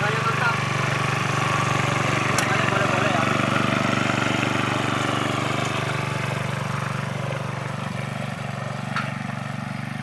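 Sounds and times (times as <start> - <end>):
small petrol engine puttering: 0.0 - 10.0.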